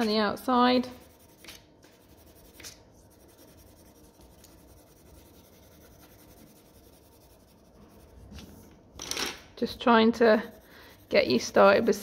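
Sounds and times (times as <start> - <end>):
coloured pencil shading on paper: 0.5 - 8.7, 9.8 - 12.0.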